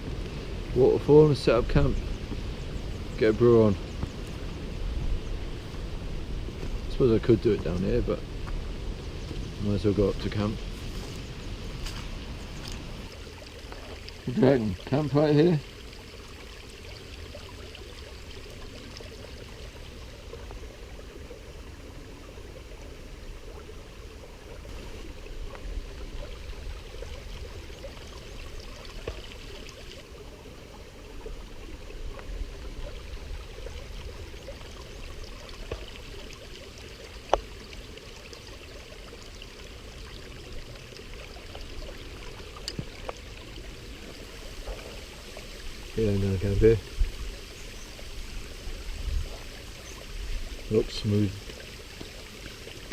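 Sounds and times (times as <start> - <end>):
water running in stream: 0.0 - 52.9.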